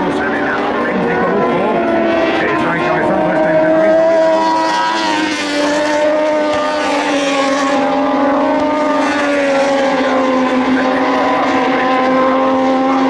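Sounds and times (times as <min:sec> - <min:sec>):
motorcycle engines at high revs: 0:00.0 - 0:13.0.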